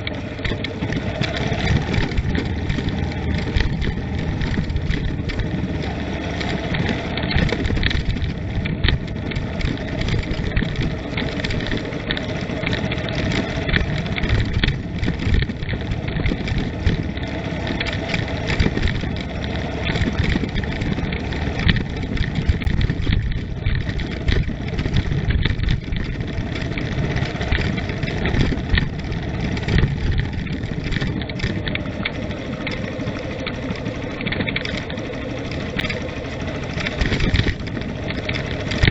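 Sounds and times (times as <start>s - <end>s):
small knocks and rattles: 0.0s - 38.9s
vehicle engine and road noise: 0.0s - 38.9s.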